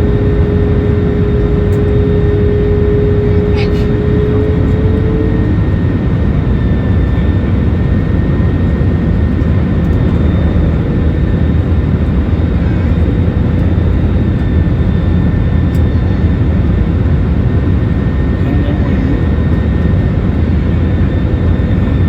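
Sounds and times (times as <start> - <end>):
airliner engine rumble: 0.0 - 22.0
faint engine whine: 0.0 - 22.0.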